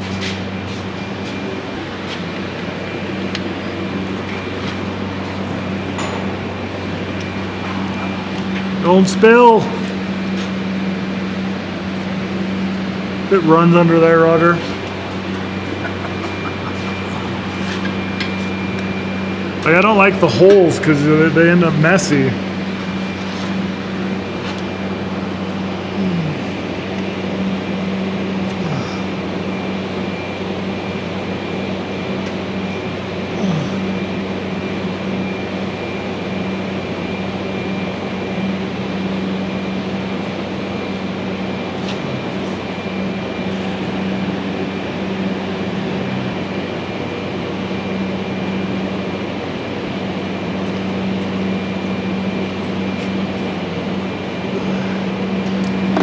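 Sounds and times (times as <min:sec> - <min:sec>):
electric machine hum: 0:00.0 - 0:56.0
thin high whine: 0:00.0 - 0:56.0.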